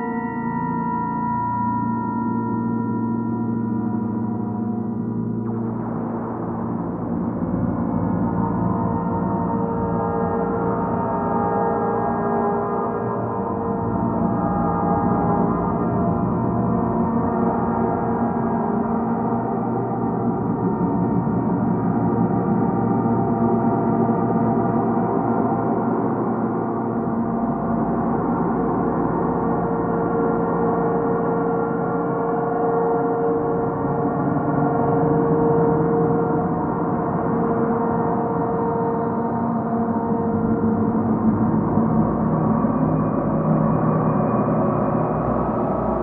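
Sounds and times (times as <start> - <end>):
synthesizer drone with reverb: 0.0 - 46.0.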